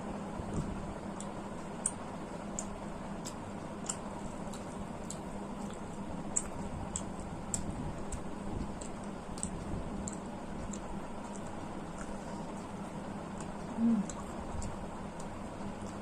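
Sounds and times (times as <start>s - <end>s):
ceiling fan hum: 0.0s - 16.0s
mouth clicks and smacks chewing: 0.6s - 16.0s.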